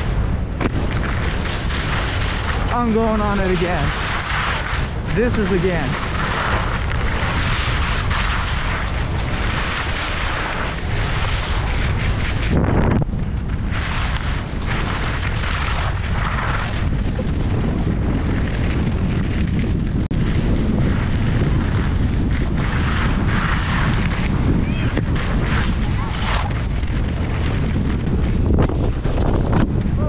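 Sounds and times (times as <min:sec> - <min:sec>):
wind buffeting microphone: 0:00.0 - 0:30.0
skis scraping over snow: 0:00.9 - 0:29.9.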